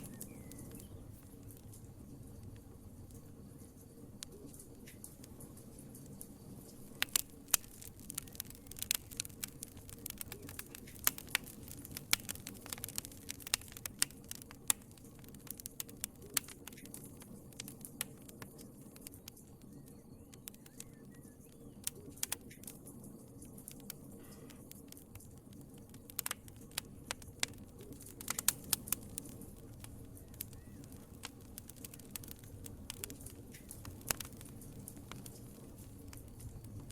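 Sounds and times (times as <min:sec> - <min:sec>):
fire pops and snaps: 0:00.0 - 0:36.9
hiss of flames: 0:00.0 - 0:36.9
wood fire crackling: 0:00.0 - 0:36.9.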